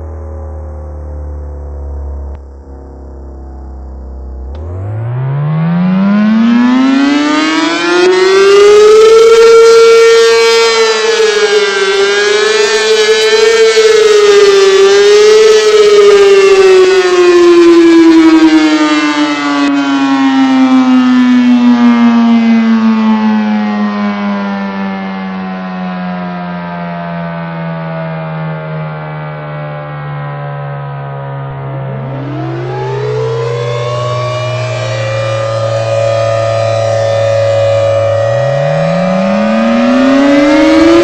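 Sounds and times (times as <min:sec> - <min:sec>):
siren winding up and down: 0:00.1 - 0:41.0.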